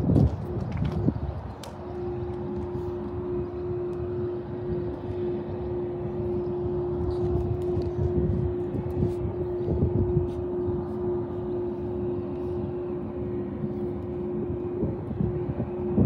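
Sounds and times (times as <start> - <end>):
diesel locomotive idling: 1.2 - 16.0.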